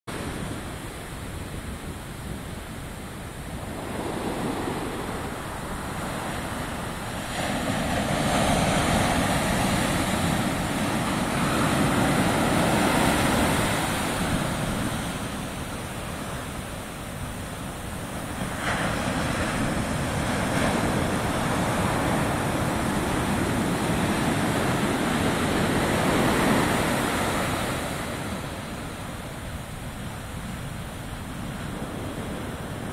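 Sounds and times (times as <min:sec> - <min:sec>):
ocean surf breaking: 0:00.1 - 0:32.9.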